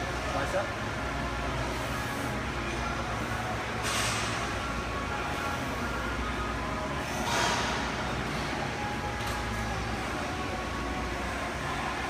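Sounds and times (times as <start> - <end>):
fan hum and hiss: 0.0 - 12.0.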